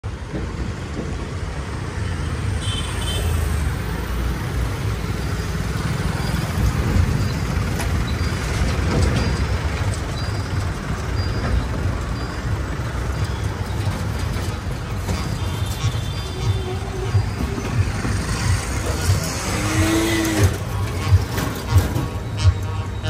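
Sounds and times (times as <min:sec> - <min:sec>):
traffic hum: 0:00.0 - 0:23.0.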